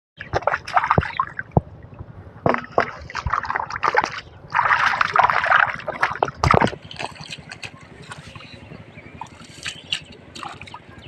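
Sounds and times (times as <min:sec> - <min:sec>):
water splashing: 0:00.2 - 0:11.0.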